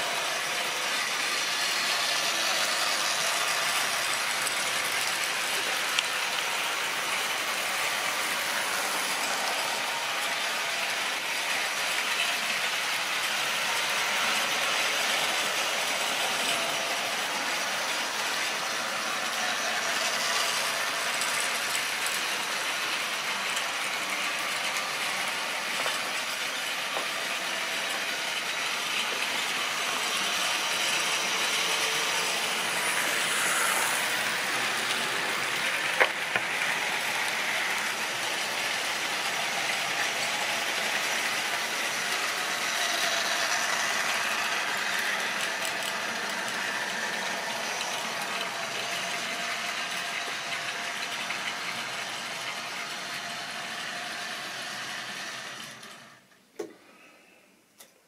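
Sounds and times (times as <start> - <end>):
model train wheels rattling: 0.0 - 56.2.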